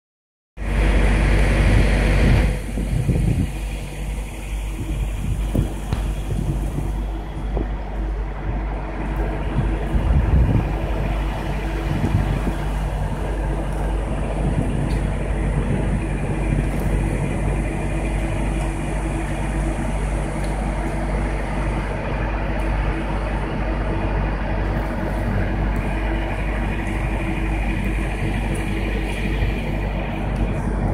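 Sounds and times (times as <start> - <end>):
diesel truck engine idling: 0.6 - 30.9.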